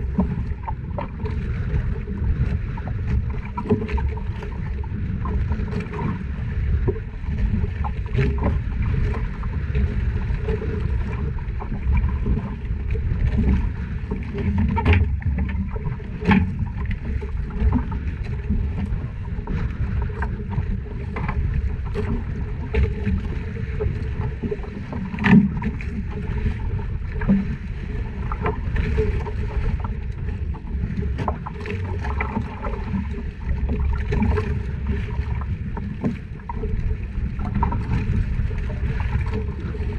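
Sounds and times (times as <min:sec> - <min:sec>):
boat engine rumble: 0:00.0 - 0:39.9.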